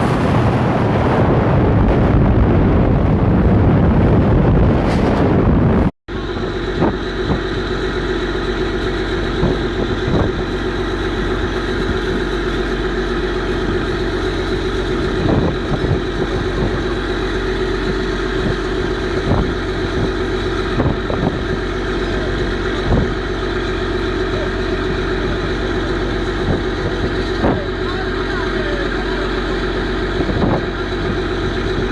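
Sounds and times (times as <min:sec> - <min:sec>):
boat engine humming: 0:00.0 - 0:31.9.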